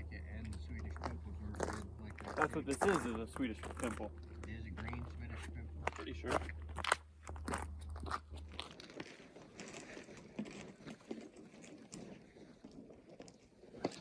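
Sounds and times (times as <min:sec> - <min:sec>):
crunching on snow: 0:00.3 - 0:14.0.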